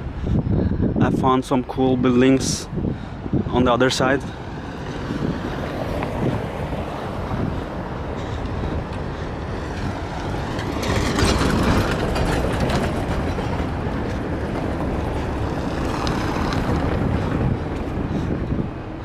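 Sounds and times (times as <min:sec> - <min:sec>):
street rumble: 0:00.0 - 0:19.0
wind on microphone: 0:00.0 - 0:19.0.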